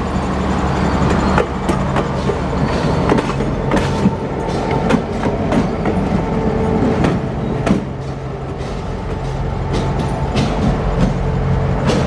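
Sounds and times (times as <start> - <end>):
train rumbling on rails: 0.0 - 12.0
wheels clicking over rail joints: 1.0 - 12.0.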